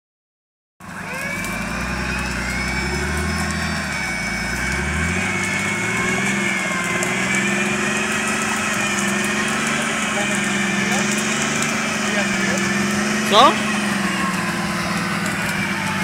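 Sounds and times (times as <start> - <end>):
vehicle engine running and revving: 0.8 - 16.0.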